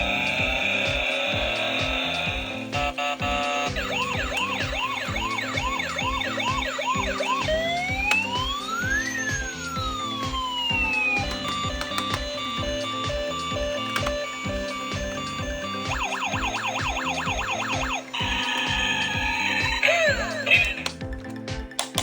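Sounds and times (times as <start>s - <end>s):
electronic police siren: 0.0s - 20.9s
background music with steady beat: 0.0s - 22.0s.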